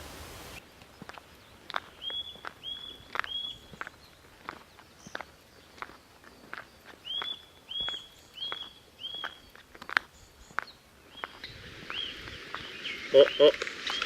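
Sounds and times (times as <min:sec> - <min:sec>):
bird whistling song: 0:01.7 - 0:14.0.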